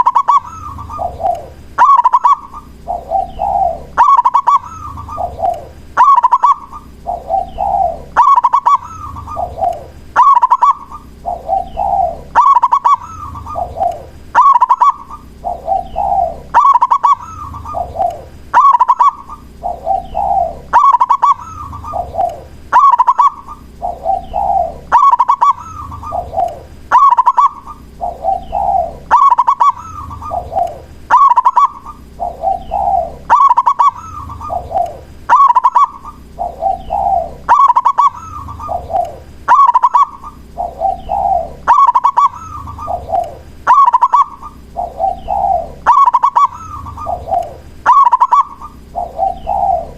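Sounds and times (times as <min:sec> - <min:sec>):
dove cooing song: 0:00.0 - 0:49.9.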